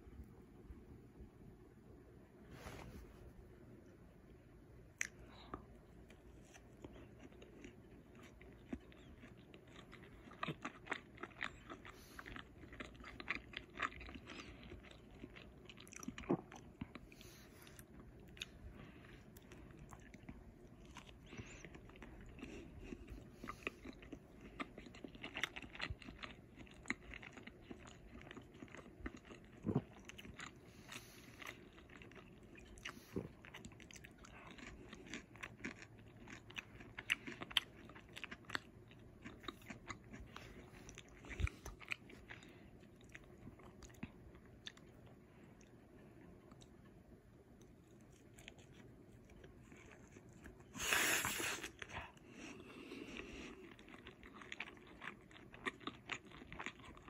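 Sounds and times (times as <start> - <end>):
person chewing crunchy food: 4.9 - 57.0.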